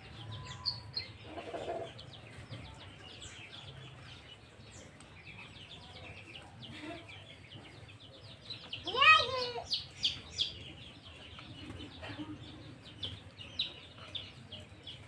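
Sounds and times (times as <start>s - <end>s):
small birds chirping: 0.0s - 15.0s
chicken clucking: 0.1s - 15.0s.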